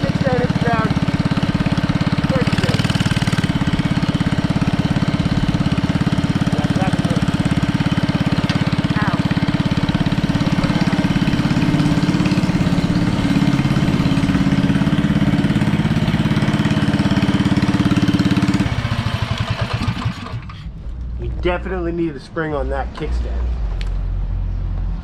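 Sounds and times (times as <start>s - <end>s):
mini bike engine running: 0.0s - 20.6s.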